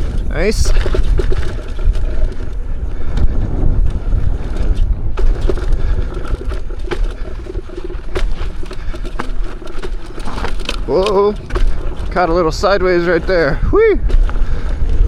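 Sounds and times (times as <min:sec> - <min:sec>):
stones pinging: 0:00.0 - 0:15.0
wheel knocking on rocks: 0:00.0 - 0:15.0
wind buffeting microphone: 0:00.0 - 0:15.0.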